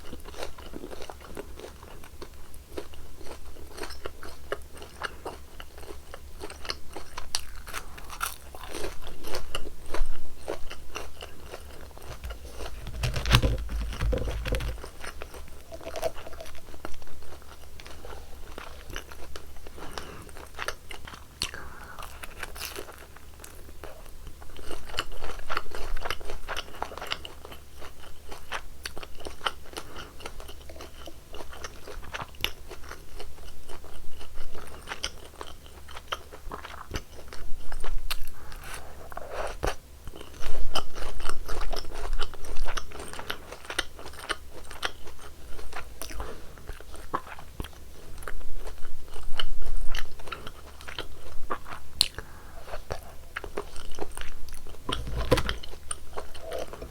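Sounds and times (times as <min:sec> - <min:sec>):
crunching of crispy fried food: 0:00.0 - 0:56.9.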